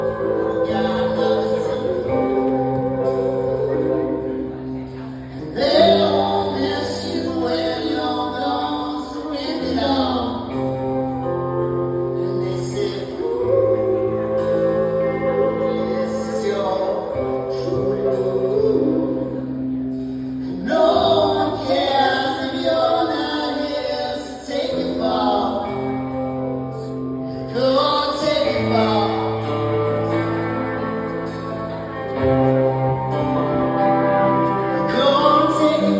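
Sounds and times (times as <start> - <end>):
band playing slow song live: 0.0 - 35.9
person singing: 0.0 - 35.9.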